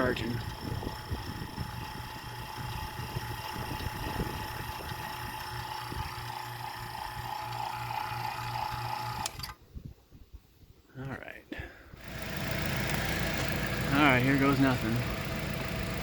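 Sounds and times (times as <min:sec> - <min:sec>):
vacuum pump humming and whining: 0:00.0 - 0:09.6, 0:12.0 - 0:16.0.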